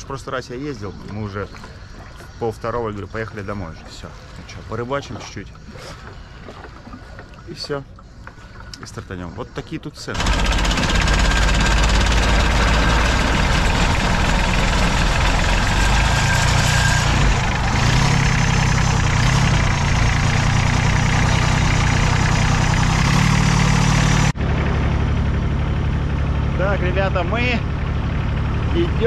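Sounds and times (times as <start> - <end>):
boat engines droning: 0.0 - 29.0.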